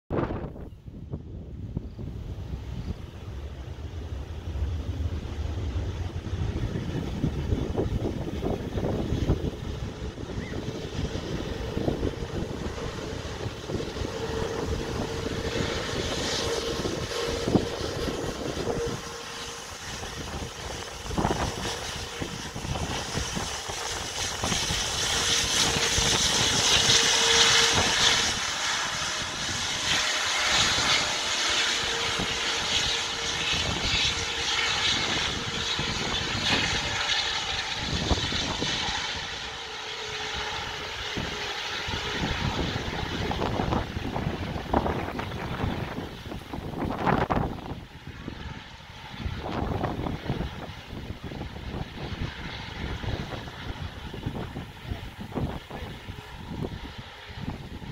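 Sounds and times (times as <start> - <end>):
jet engine whine: 0.1 - 57.9
jet engines running: 0.1 - 57.9.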